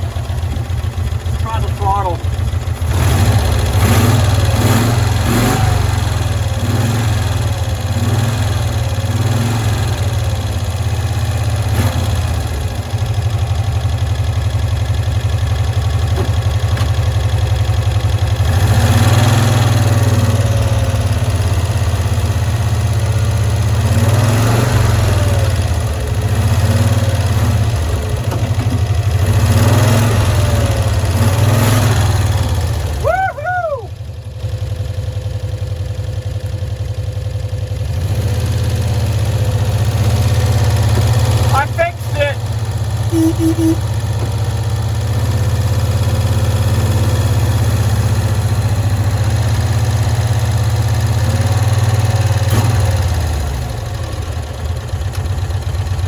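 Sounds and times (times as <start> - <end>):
engine running and revving: 0.0 - 33.3, 34.3 - 56.0.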